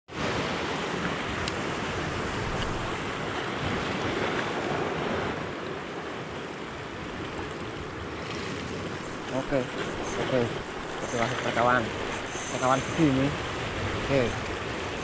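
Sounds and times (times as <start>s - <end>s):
waves breaking on rocks: 0.1s - 15.0s.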